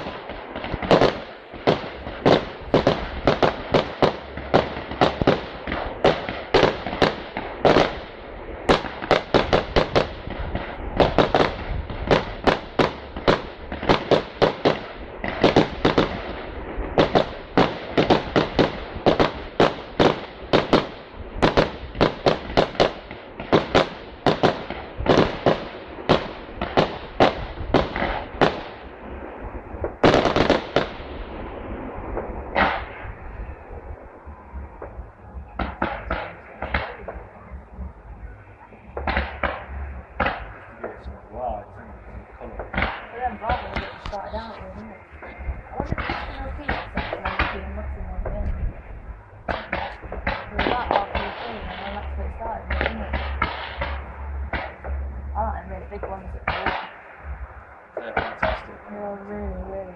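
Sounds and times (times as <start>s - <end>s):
fireworks bursting: 0.0s - 59.9s
low rumble: 0.0s - 59.9s.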